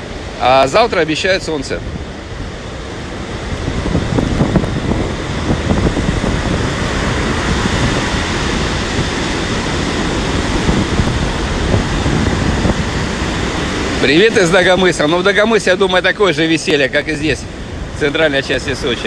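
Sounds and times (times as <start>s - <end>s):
surf on a pebble beach: 0.0s - 19.0s
wind buffeting microphone: 0.0s - 19.0s.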